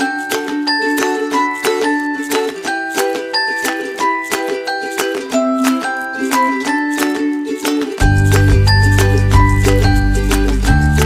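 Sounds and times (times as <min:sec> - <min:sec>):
upbeat music with plucked notes: 0:00.0 - 0:11.0.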